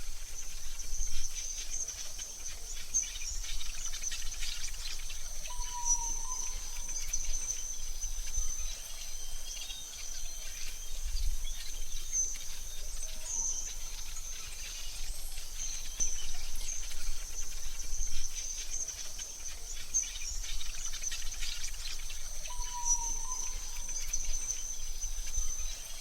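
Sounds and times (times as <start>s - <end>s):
high insect trill: 0.0s - 26.0s
bird chirps: 0.3s - 26.0s.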